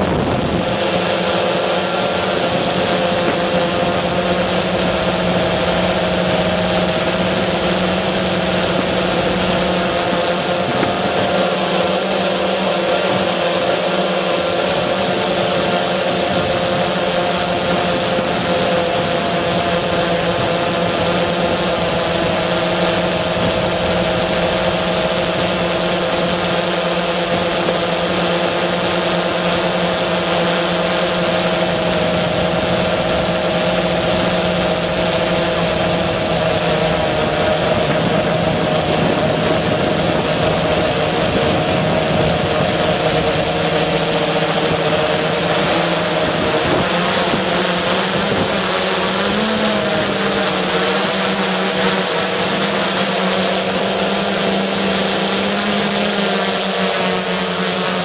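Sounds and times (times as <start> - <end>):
model helicopter motors and rotors: 0.0 - 58.0.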